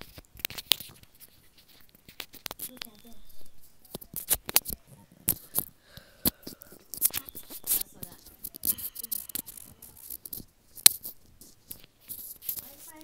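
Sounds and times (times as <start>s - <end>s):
sharp clicks: 0.0s - 13.0s
wet pops: 0.1s - 12.0s.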